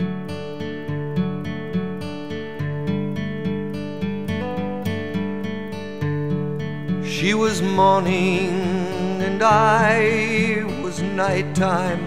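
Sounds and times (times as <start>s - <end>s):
acoustic guitar plucking chords: 0.0s - 12.0s.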